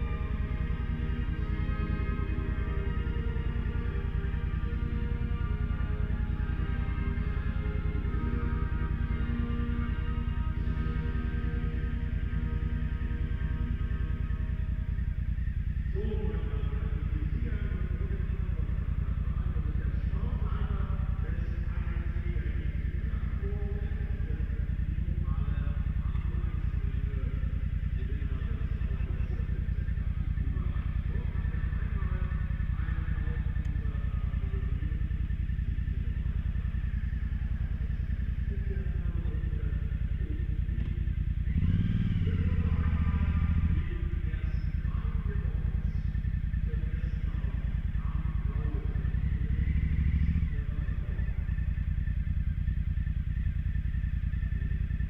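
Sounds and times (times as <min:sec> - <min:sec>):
motorcycle engine running and revving: 0:00.0 - 0:55.0.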